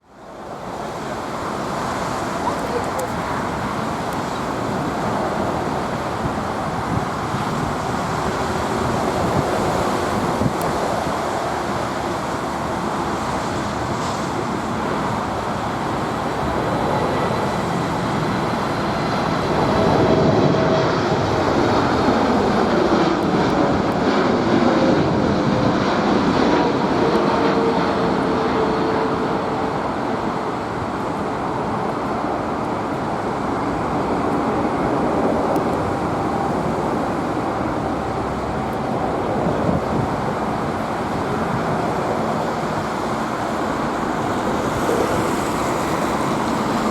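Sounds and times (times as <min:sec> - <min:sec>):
jet engines rumbling: 0:00.0 - 0:46.9
jet engine whine falling in pitch: 0:00.2 - 0:46.9.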